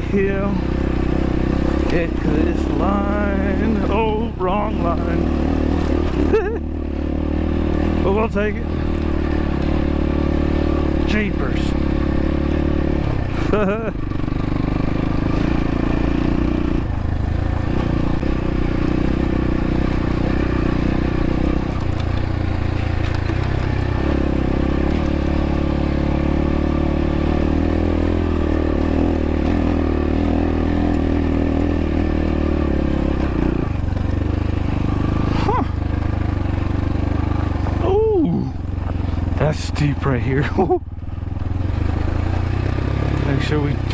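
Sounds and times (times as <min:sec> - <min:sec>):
dirt bike engine running: 0:00.0 - 0:43.9.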